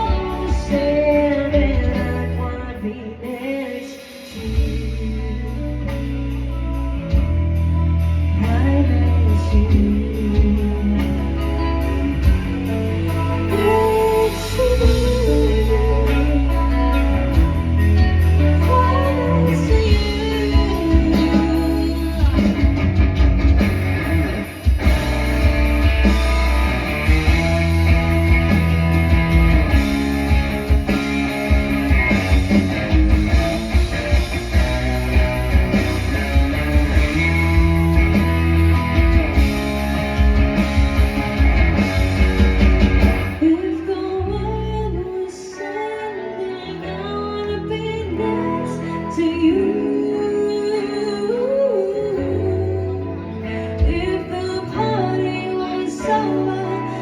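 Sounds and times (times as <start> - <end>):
drums: 0.0 - 52.5, 53.3 - 57.0
bass: 0.0 - 57.0
guitar: 0.0 - 57.0.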